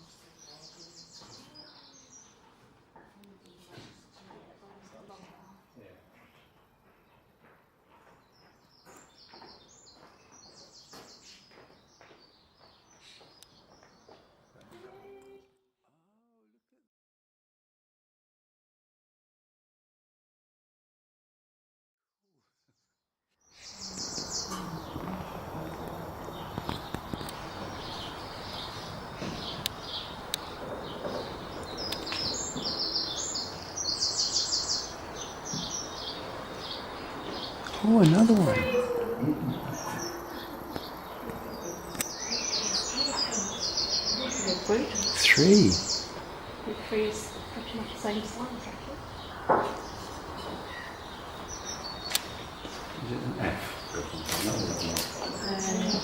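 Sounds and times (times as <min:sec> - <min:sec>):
small birds chirping: 0:00.0 - 0:15.4, 0:23.4 - 0:56.0
faint songbird singing: 0:00.0 - 0:15.5, 0:22.6 - 0:56.0.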